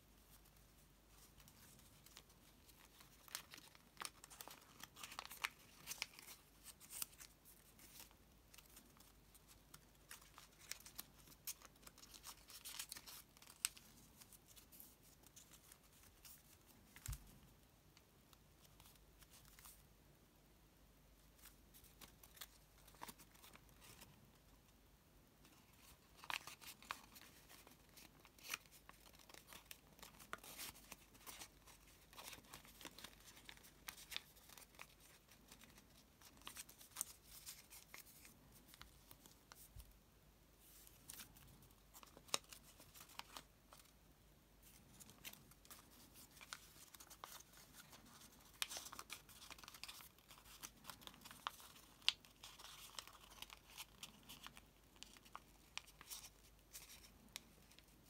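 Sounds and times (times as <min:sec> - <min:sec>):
paper crinkling and rustling: 0:00.2 - 0:17.5, 0:21.3 - 0:24.3, 0:25.4 - 0:40.0, 0:40.6 - 0:44.0, 0:44.6 - 0:58.0.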